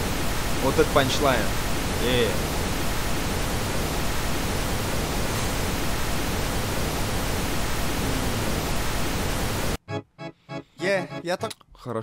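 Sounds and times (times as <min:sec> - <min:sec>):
loud static hiss: 0:00.0 - 0:09.8.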